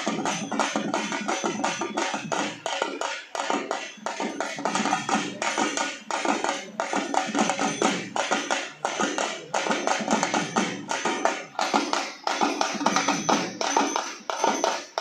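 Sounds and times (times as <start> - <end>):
frame drums beaten fast: 0.0 - 15.0.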